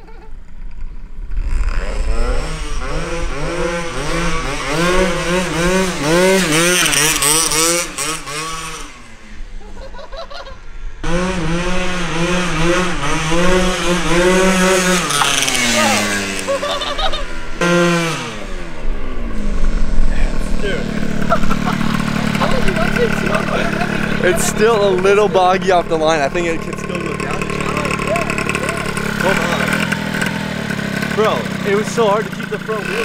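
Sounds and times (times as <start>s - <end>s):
scooter engine revving: 0.9s - 33.0s.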